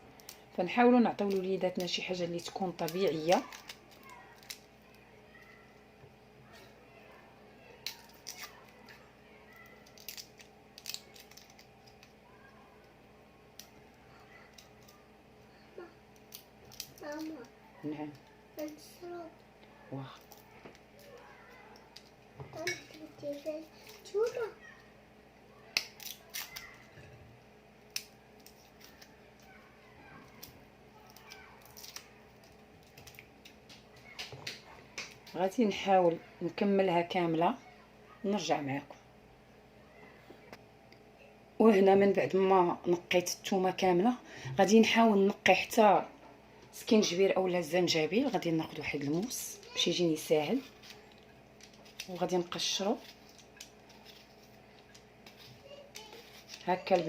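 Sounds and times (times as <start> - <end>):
garlic skins crackling: 0.0 - 7.1, 7.7 - 24.8, 25.7 - 37.2, 46.7 - 57.0.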